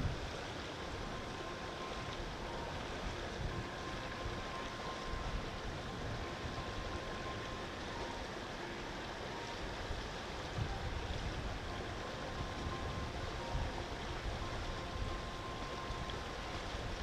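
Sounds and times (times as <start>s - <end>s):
wind buffeting microphone: 0.0s - 8.5s, 9.2s - 17.0s.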